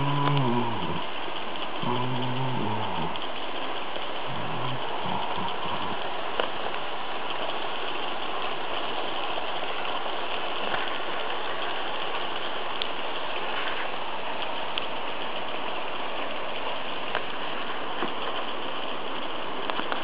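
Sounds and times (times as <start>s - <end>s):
faint clicks: 0.0s - 20.0s
model trains rumbling on track: 0.0s - 20.0s.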